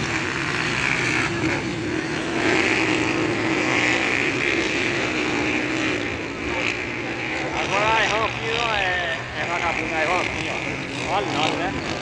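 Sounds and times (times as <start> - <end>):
motocross bike engines droning: 0.0 - 12.0.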